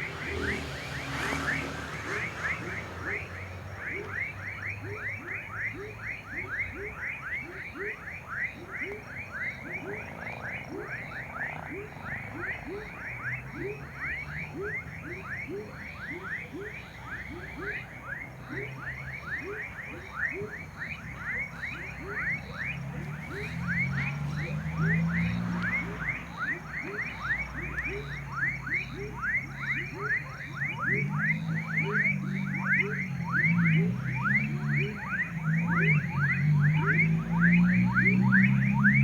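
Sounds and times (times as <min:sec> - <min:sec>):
high frog calls: 0:00.0 - 0:39.0
lower-pitched frog calls: 0:00.0 - 0:39.0.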